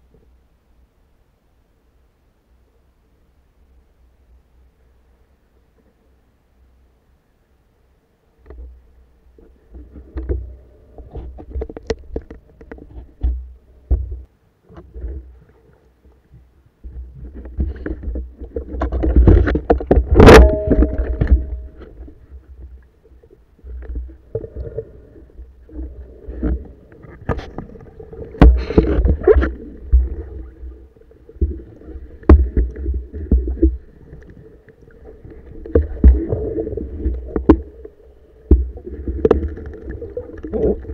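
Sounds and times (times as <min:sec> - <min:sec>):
muffled water sloshing underwater: 0:00.0 - 0:40.9.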